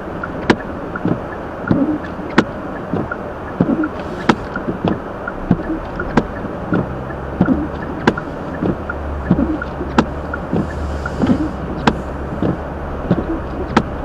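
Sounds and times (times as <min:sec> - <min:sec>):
road and tyre noise in car: 0:00.0 - 0:14.0.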